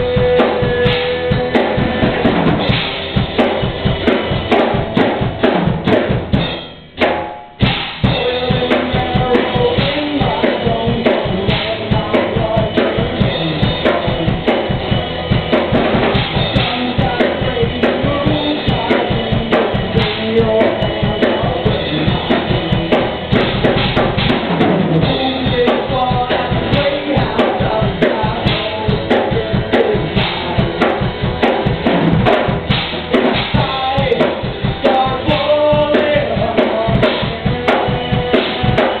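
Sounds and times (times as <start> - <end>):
kick and snare drum beat: 0.0 - 39.0
live rock band playing: 0.0 - 39.0.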